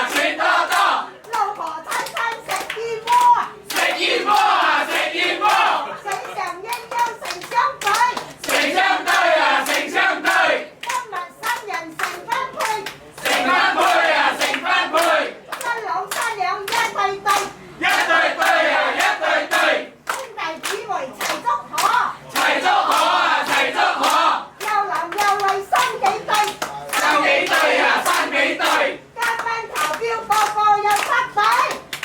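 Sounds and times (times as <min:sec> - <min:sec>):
hand claps: 0:00.0 - 0:32.0.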